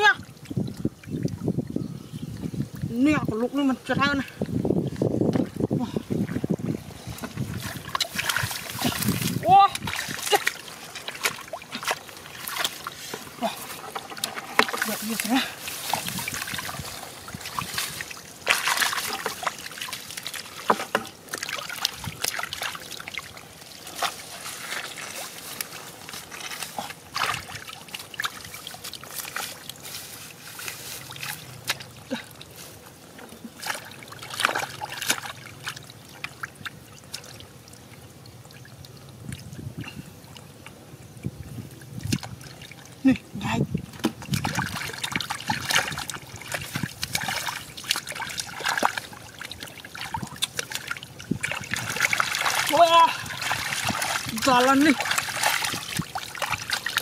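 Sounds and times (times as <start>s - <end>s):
muddy water splashing: 0.0s - 57.0s
water trickling: 0.0s - 57.0s.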